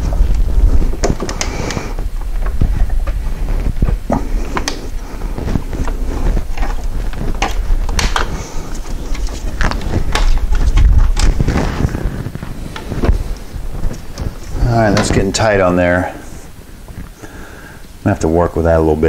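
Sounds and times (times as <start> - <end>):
low rumble of handling noise: 0.0 - 19.0.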